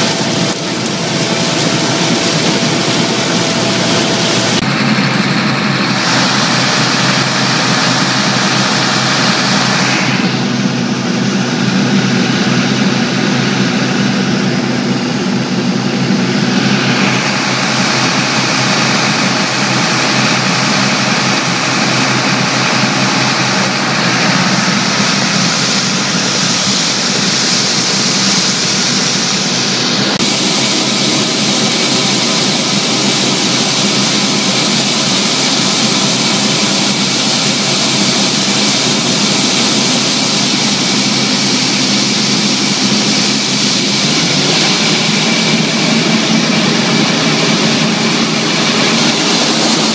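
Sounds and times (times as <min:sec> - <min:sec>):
combine engine and machinery drone: 0:00.0 - 0:49.9.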